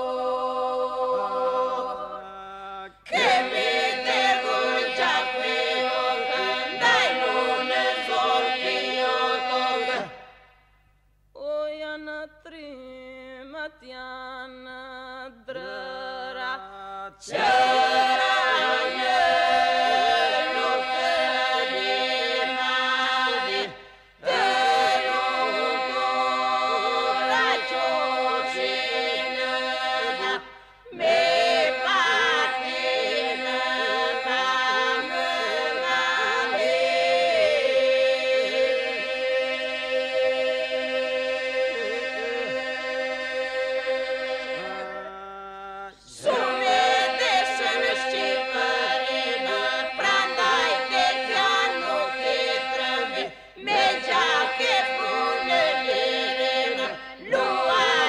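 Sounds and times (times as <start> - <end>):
choir singing: 0.0 - 10.5, 15.4 - 58.0.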